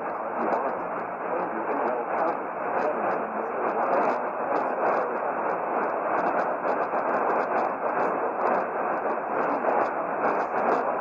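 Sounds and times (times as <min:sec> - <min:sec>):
radio static hiss: 0:00.0 - 0:11.0
rapid irregular crackling: 0:00.0 - 0:11.0.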